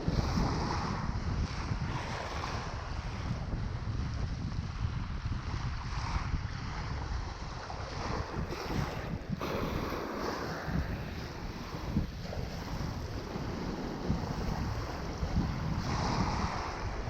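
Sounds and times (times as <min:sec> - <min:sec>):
sea waves washing on shore: 0:00.0 - 0:17.0
wind rumbling on microphone: 0:00.0 - 0:17.0.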